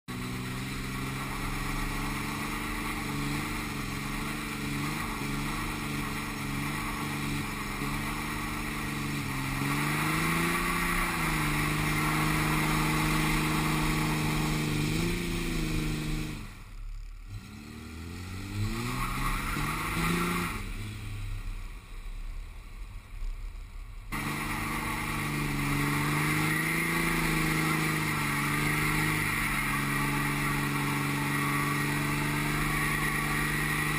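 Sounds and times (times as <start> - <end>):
diesel engine revving high: 0.1 - 21.7, 24.1 - 33.9
spinning tyre hiss: 0.1 - 33.9.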